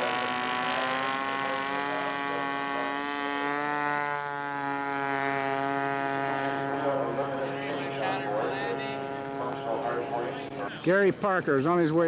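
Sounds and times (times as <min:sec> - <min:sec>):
lower engine tone: 0:00.0 - 0:12.0
model airplane engine buzzing: 0:00.0 - 0:12.0.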